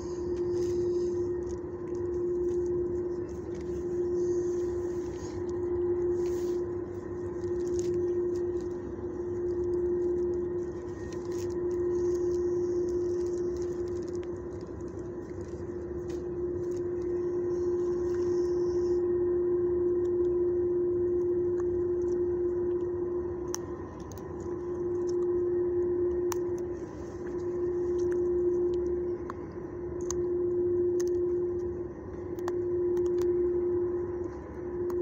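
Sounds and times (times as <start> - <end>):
low rumbling noise: 0.0 - 35.0
steady machine hum: 0.0 - 35.0.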